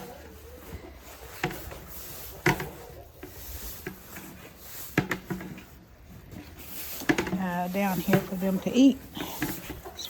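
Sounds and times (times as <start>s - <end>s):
broom sweeping floor: 0.0s - 10.0s.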